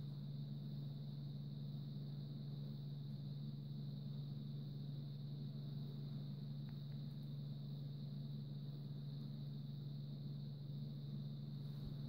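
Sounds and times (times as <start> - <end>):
faint high-pitched whine: 0.0 - 12.0
low hum: 0.0 - 12.0.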